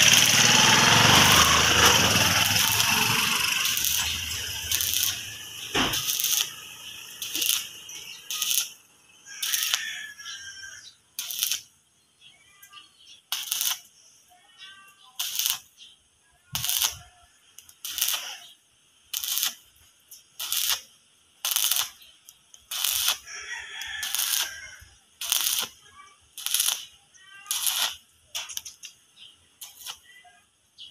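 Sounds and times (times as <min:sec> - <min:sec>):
arc welder crackling: 0:00.0 - 0:11.8, 0:13.3 - 0:13.9, 0:15.2 - 0:15.8, 0:16.5 - 0:30.2.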